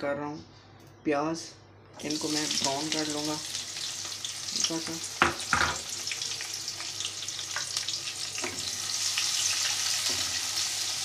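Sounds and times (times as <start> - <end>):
onions sizzling in hot oil: 2.0 - 11.0.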